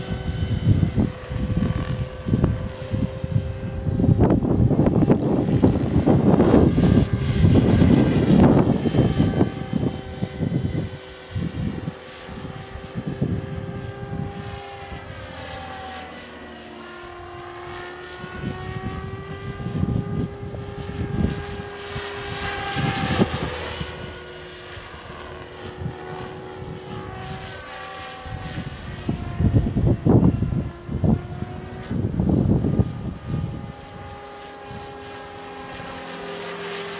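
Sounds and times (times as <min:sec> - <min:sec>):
wind rumbling on microphone: 0:00.0 - 0:15.3, 0:17.6 - 0:27.6, 0:28.2 - 0:35.9
rc helicopter whine: 0:00.0 - 0:36.9.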